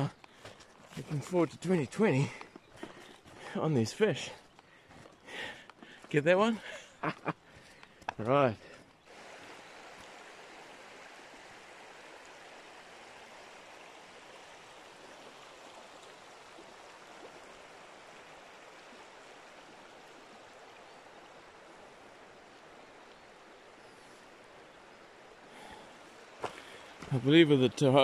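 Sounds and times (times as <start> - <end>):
stream flowing over gravel: 0.0 - 6.6, 8.2 - 28.0.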